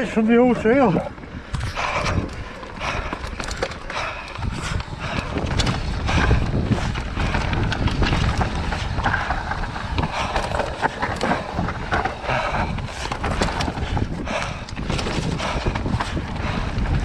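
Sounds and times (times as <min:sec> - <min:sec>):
bike chain and frame rattling: 0:00.0 - 0:17.0
bike tyres rolling over dirt: 0:00.0 - 0:17.0
wind buffeting microphone: 0:00.0 - 0:17.0.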